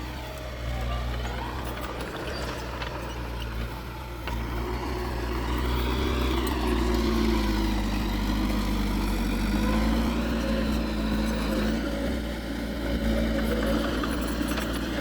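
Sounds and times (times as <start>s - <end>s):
heavy diesel engine working: 0.0s - 15.0s.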